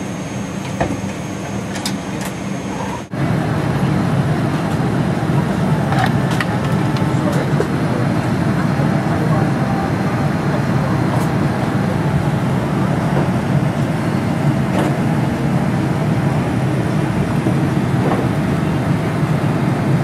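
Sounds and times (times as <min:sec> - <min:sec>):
aircraft cabin hum: 0:00.0 - 0:20.0.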